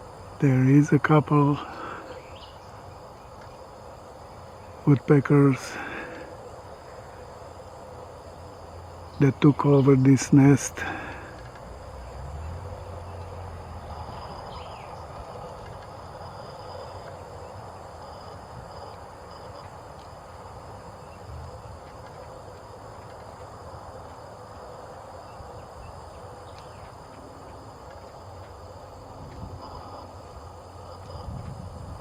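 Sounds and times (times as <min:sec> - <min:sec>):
faint high insect drone: 0:00.0 - 0:32.0.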